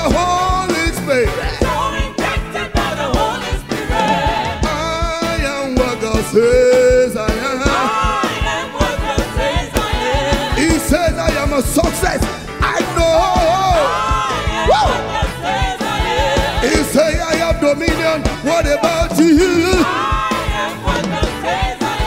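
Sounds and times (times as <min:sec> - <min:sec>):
church band playing gospel music: 0:00.0 - 0:22.0
people singing: 0:00.0 - 0:22.0
steady drum beat: 0:00.0 - 0:22.0.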